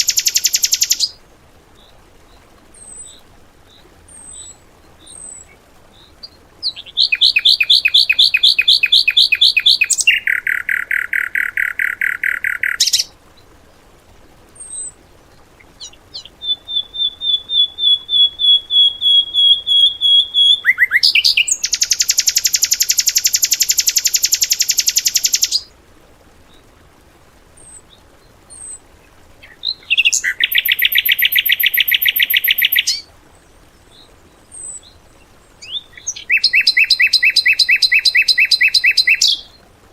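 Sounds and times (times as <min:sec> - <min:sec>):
songbird rapid trills: 0:00.0 - 0:01.2, 0:03.8 - 0:13.2, 0:14.6 - 0:25.7, 0:29.4 - 0:39.6.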